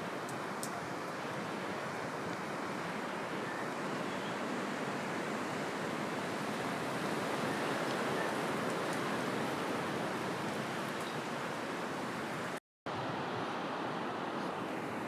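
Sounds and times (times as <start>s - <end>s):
strong wind through trees: 0.0s - 15.0s.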